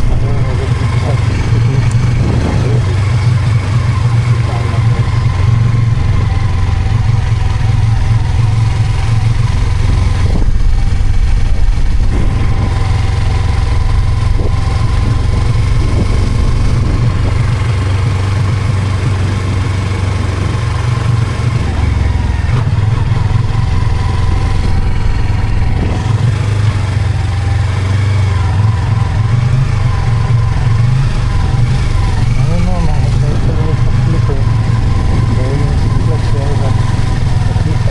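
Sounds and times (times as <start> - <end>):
motorcycle engine running: 0.0 - 37.9
wind rumble on microphone: 0.0 - 37.9.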